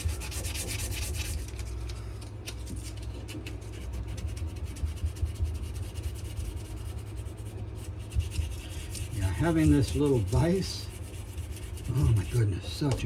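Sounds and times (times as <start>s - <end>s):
sandpaper rubbing on wood: 0.0s - 1.5s, 3.7s - 12.9s.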